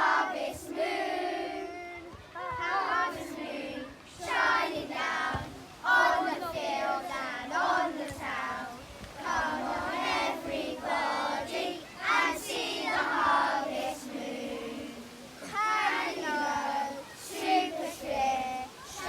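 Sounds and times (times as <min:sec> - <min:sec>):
children singing: 0:00.0 - 0:19.0.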